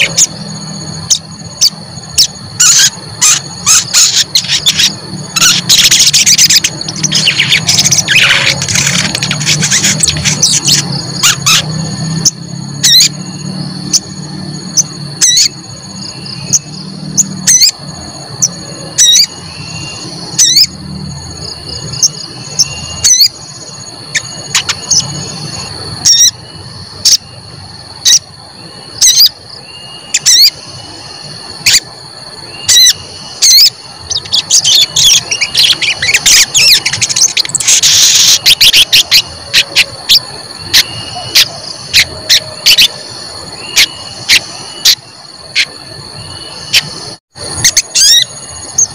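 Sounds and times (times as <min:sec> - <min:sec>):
high-pitched insect-like drone: 0:00.0 - 0:48.9.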